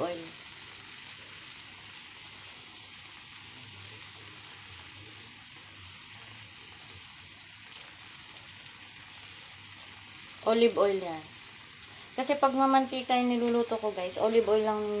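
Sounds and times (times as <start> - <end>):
sausages sizzling in a frying pan: 0.0 - 15.0.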